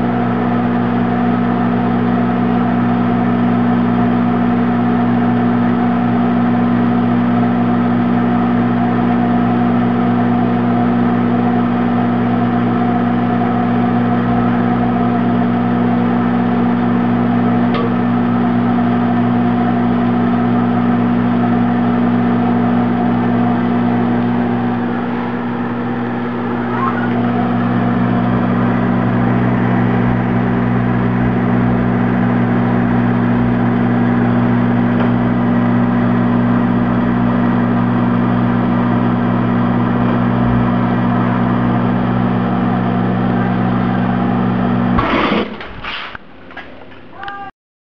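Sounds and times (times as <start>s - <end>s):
microwave oven humming: 0.0s - 47.5s.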